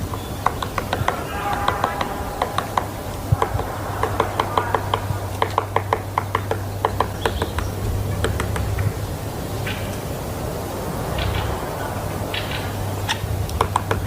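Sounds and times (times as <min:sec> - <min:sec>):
woodpecker pecking at wood: 0:00.0 - 0:10.1, 0:11.2 - 0:14.0
steady low hum: 0:00.0 - 0:14.0.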